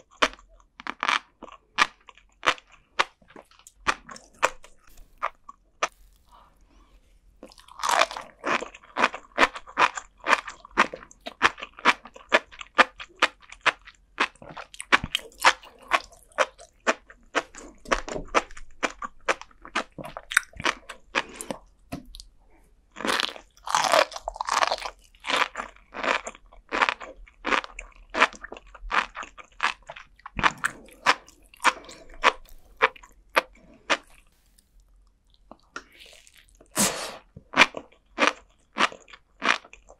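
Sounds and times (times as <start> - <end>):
chewing with crackling pops: 0.0 - 22.3, 22.9 - 39.9.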